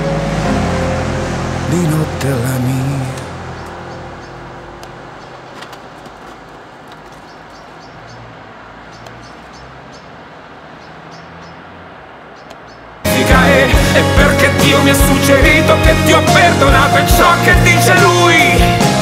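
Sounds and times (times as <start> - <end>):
low traffic hum: 0.0 - 18.8.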